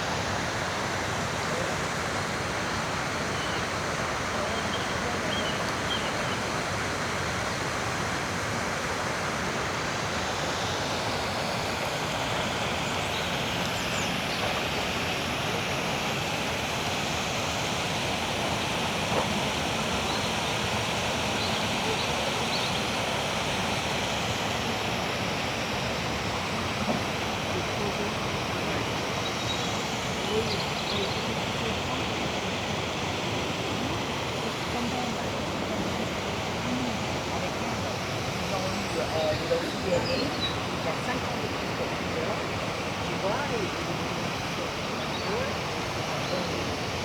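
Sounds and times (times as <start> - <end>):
steady rushing outdoor noise: 0.0 - 47.0.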